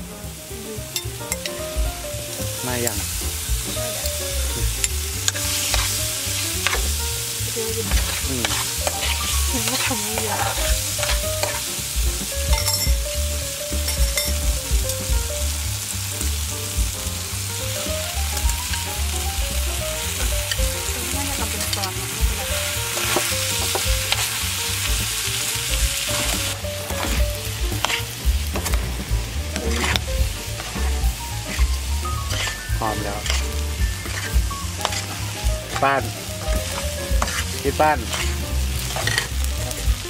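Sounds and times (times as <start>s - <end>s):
food sizzling in hot pan: 0.0s - 40.0s.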